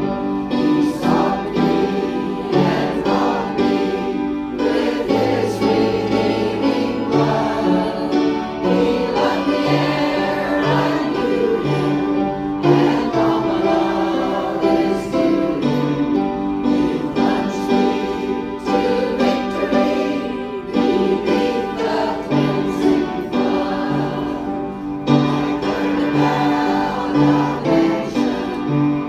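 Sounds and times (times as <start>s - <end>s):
choir singing sustained notes: 0.0s - 29.0s.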